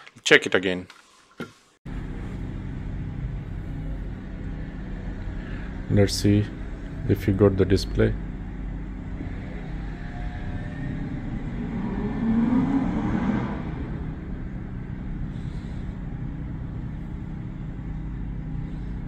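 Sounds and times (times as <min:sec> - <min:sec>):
faint rising whine: 0:01.9 - 0:19.0
low mechanical hum: 0:01.9 - 0:19.0.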